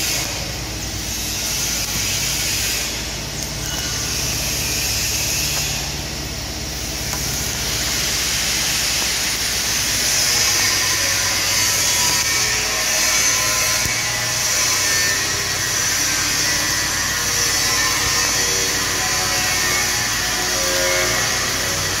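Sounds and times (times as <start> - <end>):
welding arc crackling and hissing: 0.0 - 22.0.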